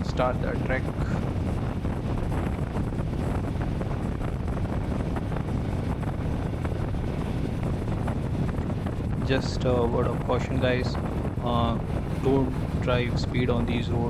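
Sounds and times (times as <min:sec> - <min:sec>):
motorcycle engine cruising: 0:00.0 - 0:14.0
wind on microphone: 0:00.0 - 0:14.0.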